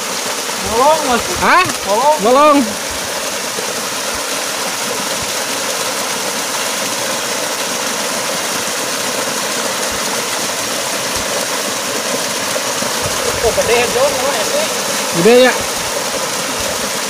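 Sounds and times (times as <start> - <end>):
water rushing down a cascade: 0.0 - 17.0.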